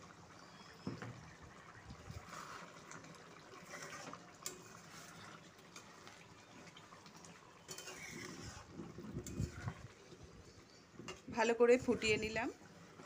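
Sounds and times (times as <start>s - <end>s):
curry bubbling in a wok: 0.0s - 13.0s
liquid pouring into pan: 0.8s - 11.3s
spatula stirring: 2.1s - 13.0s.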